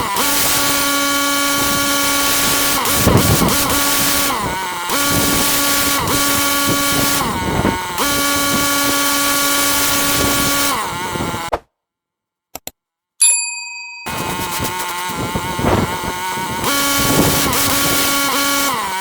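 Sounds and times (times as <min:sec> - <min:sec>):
pressure washer engine running: 0:00.0 - 0:11.5, 0:14.1 - 0:19.0.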